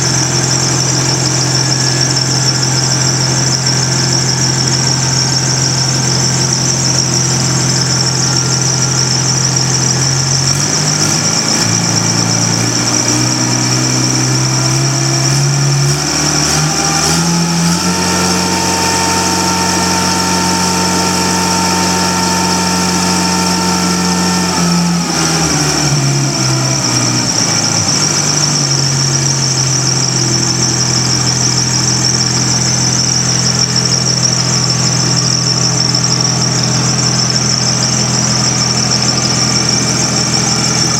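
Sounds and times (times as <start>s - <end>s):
concrete saw engine revving: 0.0s - 40.9s
high-pitched whine: 0.0s - 40.9s.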